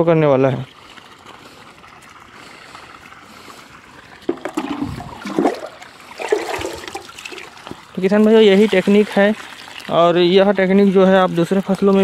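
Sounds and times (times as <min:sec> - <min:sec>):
liquid sloshing and splashing: 0:00.4 - 0:12.0.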